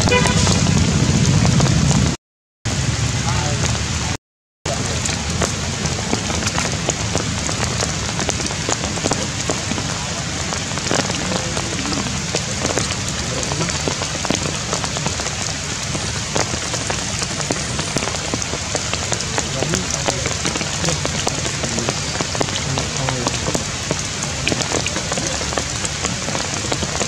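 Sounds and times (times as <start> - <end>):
rain falling on leaves: 0.1 - 2.1, 2.7 - 27.0.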